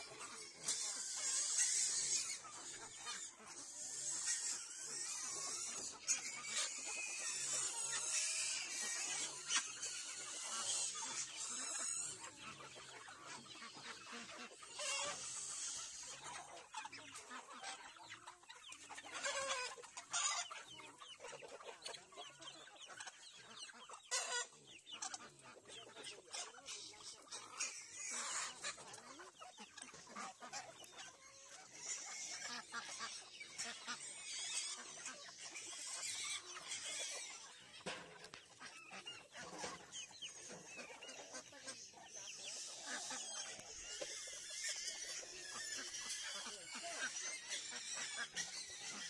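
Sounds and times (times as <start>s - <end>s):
chickens clucking: 0.0s - 49.0s.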